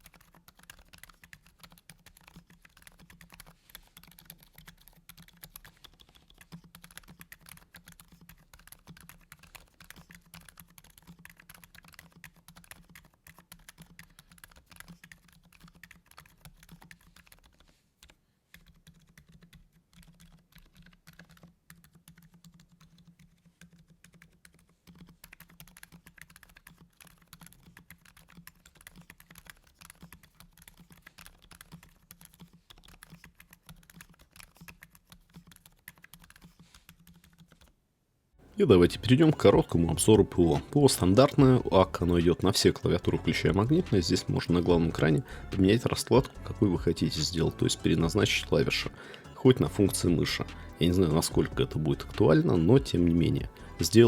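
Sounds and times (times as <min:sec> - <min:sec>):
muted keyboard typing: 0:00.0 - 0:37.8, 0:38.8 - 0:54.0.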